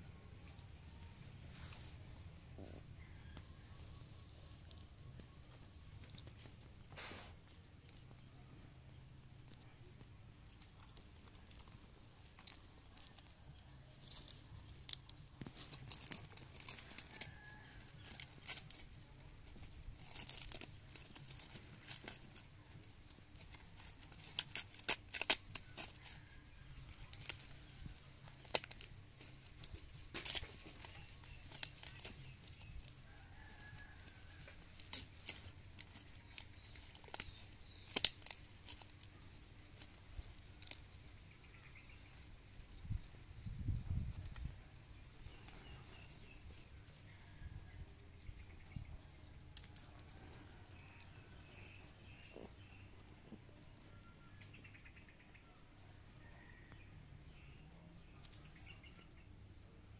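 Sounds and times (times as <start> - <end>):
dry leaves crinkling and tearing: 0.4 - 54.1.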